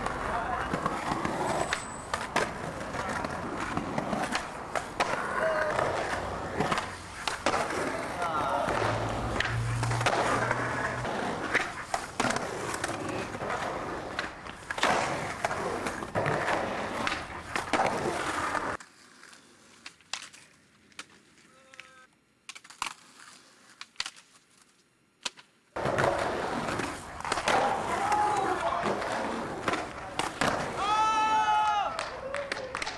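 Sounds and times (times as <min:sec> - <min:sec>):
skateboard clacking: 0:00.0 - 0:18.8, 0:25.2 - 0:32.9
skateboard wheels rolling on concrete: 0:00.0 - 0:32.9.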